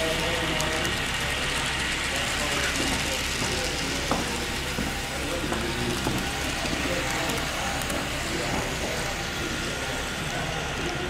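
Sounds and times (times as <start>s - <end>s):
model train cars rolling: 0.0s - 11.0s.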